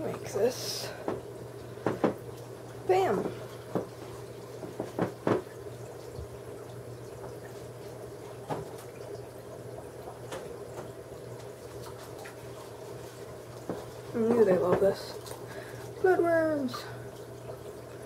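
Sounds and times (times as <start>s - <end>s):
aquarium filter trickling water: 0.0s - 18.0s.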